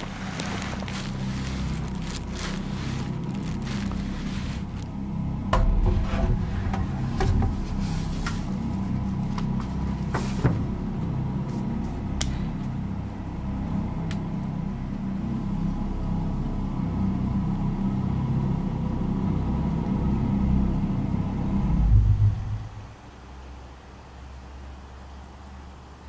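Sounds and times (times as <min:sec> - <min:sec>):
steady low rumble: 0:00.0 - 0:25.2.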